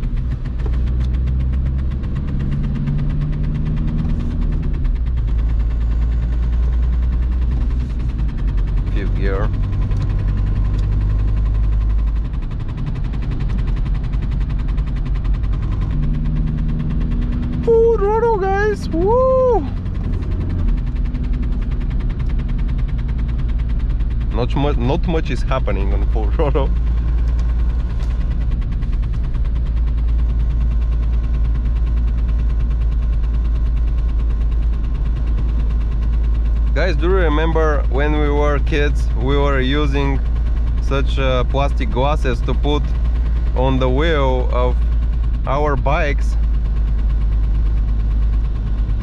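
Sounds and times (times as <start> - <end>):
diesel engine droning: 0.0 - 49.0.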